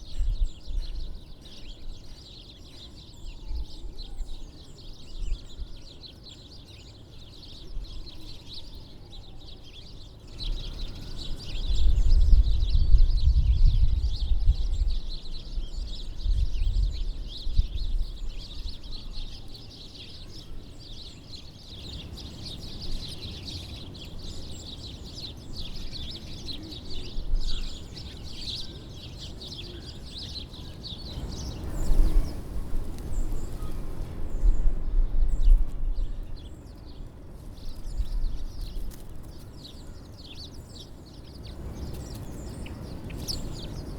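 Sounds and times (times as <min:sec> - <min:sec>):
songbirds chirping and twittering: 0:00.0 - 0:43.9.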